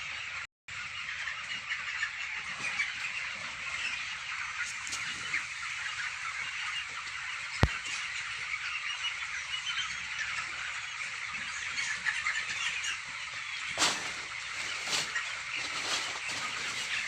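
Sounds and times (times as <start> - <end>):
chickens peeping and calling: 0.0 - 17.0.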